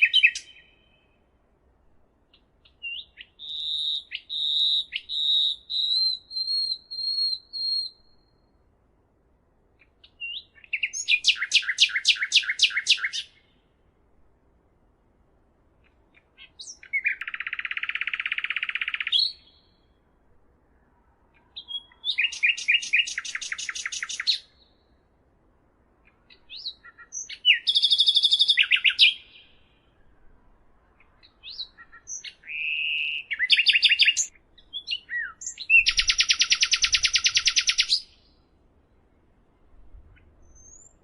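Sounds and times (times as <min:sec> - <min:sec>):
songbird singing buzzy trills: 0:00.0 - 0:01.3, 0:02.3 - 0:08.8, 0:09.8 - 0:13.7, 0:15.8 - 0:20.0, 0:21.4 - 0:25.1, 0:26.0 - 0:30.1, 0:30.9 - 0:39.3, 0:40.0 - 0:41.0.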